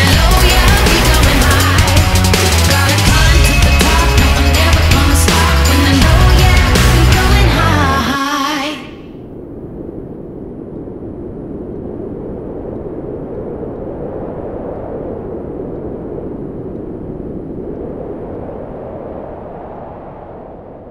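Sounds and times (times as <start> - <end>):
low rushing noise: 0.0 - 8.1, 9.0 - 20.9.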